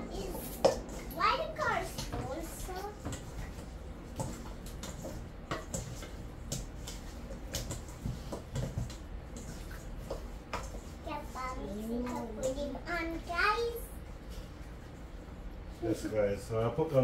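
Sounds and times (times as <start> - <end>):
wet squelches of mixing chicken: 0.0 - 15.9.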